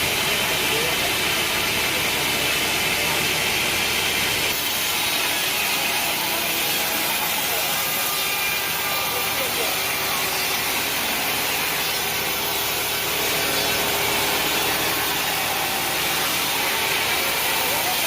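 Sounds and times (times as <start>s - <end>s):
saw cutting through log: 0.0s - 18.0s
saw motor running: 0.0s - 18.0s.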